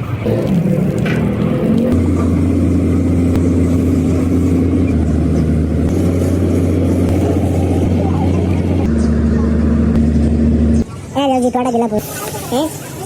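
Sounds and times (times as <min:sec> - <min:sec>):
machine humming: 0:00.0 - 0:11.2.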